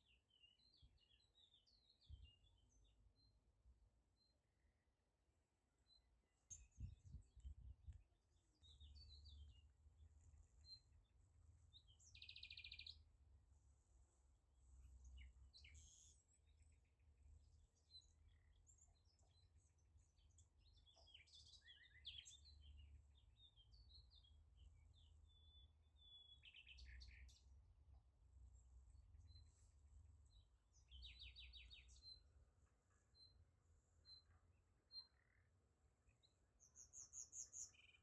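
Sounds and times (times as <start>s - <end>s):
birds chirping and trilling: 0.0s - 3.4s, 5.9s - 27.6s, 28.2s - 38.0s.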